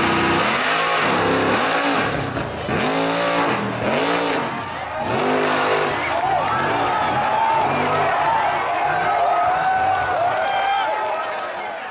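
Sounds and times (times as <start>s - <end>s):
race car engines at full throttle: 0.0s - 11.9s.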